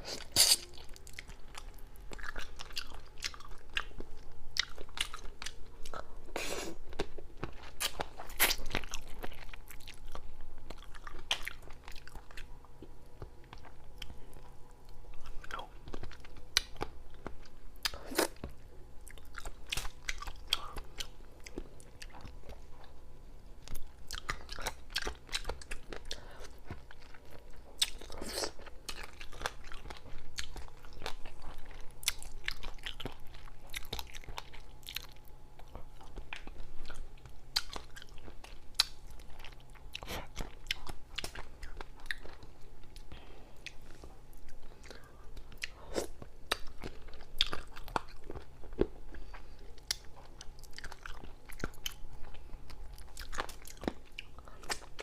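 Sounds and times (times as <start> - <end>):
crunching and chewing food: 0.0 - 55.0.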